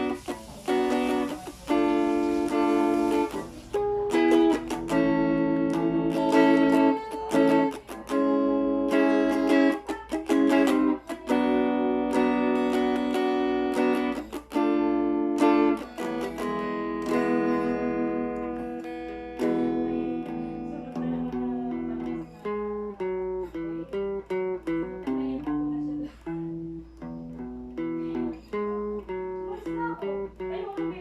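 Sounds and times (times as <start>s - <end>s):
clean electric guitar playing: 0.0s - 31.0s.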